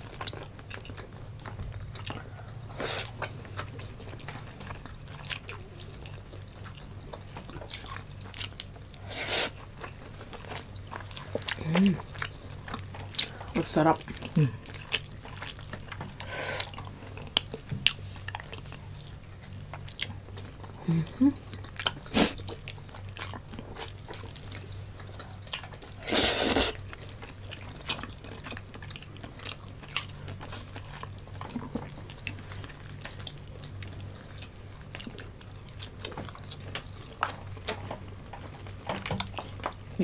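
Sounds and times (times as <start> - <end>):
wet chewing and lip-smacking: 0.0 - 26.0, 26.6 - 40.0
steady low hum: 0.0 - 40.0.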